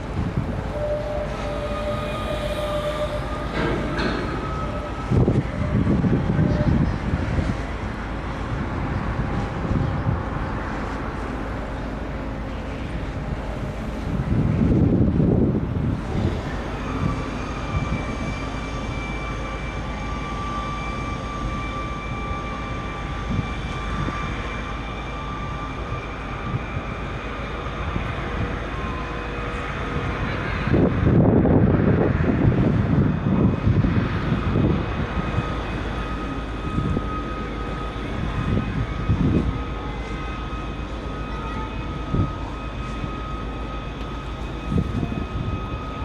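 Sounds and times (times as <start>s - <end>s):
ferry engines droning: 0.0s - 46.0s
thin steady whine: 0.0s - 46.0s
wind buffeting microphone: 0.0s - 46.0s.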